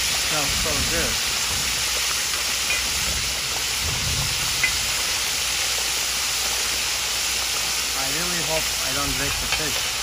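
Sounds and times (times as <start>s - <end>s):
oil sizzling while deep-frying: 0.0s - 10.0s.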